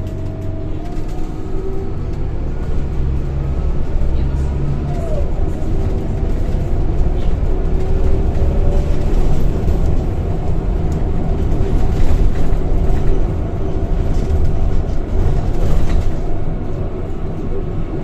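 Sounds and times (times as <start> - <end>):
bus engine low rumble: 0.0 - 18.0.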